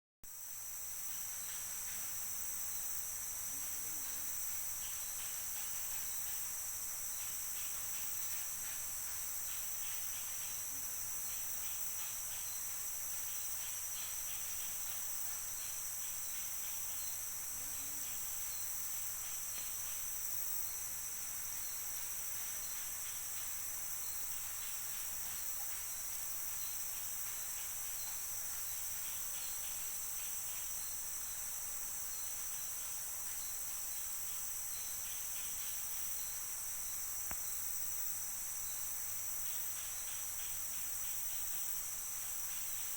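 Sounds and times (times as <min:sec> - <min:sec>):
insects buzzing: 0:00.3 - 0:42.9.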